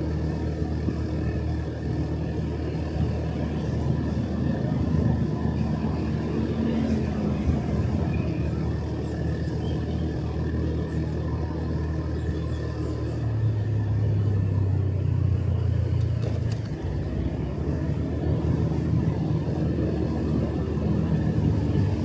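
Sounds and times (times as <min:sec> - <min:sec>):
extra engine note: 0:00.0 - 0:22.0
motorcycle engine running: 0:00.0 - 0:22.0
road and wind noise: 0:00.0 - 0:22.0.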